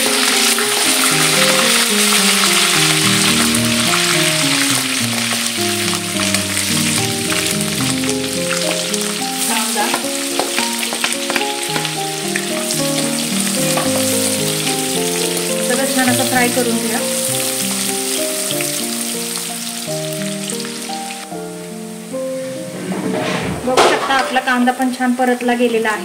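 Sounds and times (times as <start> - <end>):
onion frying while stirred: 0.0 - 21.8
oil sizzling and crackling: 0.0 - 22.7
slow piano-like music: 0.0 - 26.0.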